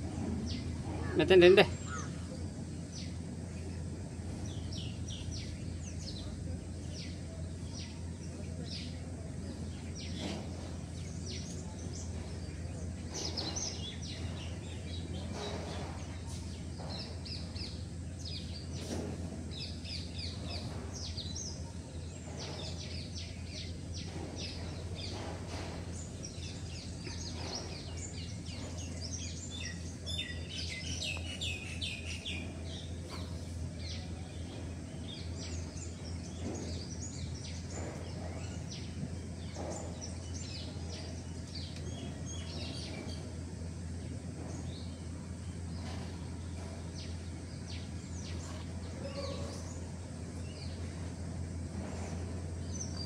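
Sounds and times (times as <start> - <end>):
low background hum: 0.0 - 53.0
small birds chirping: 0.0 - 53.0.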